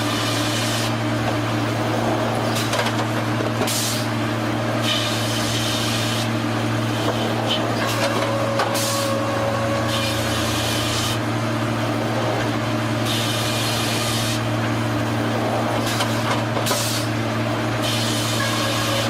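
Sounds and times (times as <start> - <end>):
wood being cut hissing: 0.0 - 2.7, 3.6 - 19.0
sawmill machinery humming: 0.0 - 19.0.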